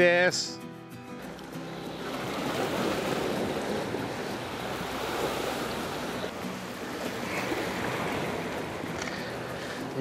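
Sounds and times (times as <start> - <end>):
sea surf washing against rocks: 1.6 - 10.0.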